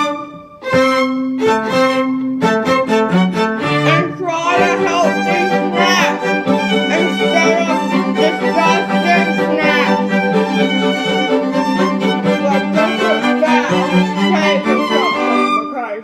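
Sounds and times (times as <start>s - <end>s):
violin over held low string note: 0.0s - 16.0s.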